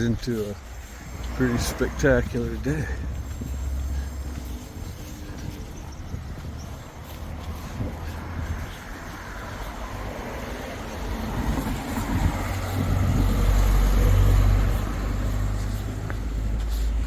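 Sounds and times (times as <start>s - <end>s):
road vehicle passing: 0.0s - 17.0s.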